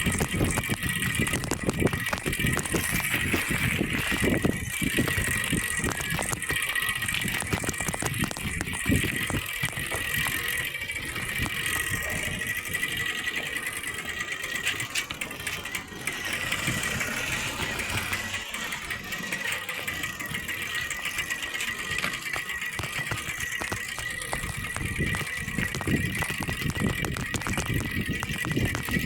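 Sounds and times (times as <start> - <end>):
plastic flapping against bicycle spokes: 0.0 - 29.0.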